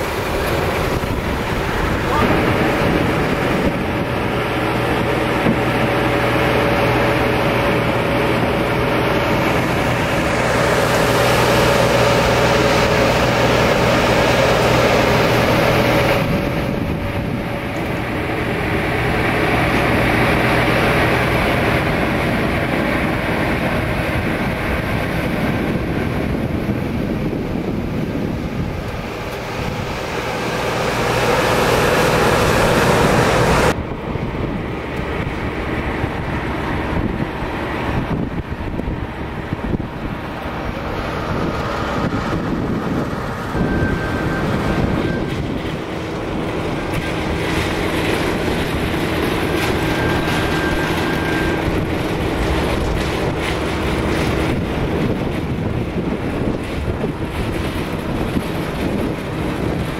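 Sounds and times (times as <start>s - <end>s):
aircraft engine low drone: 0.0s - 59.9s
steady hum: 0.0s - 59.9s.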